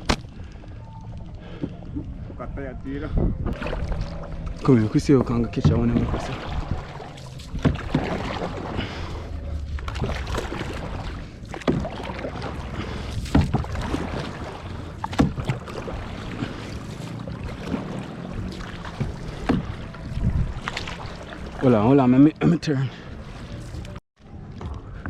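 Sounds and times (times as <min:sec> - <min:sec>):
water rushing and splashing: 0:03.4 - 0:25.0.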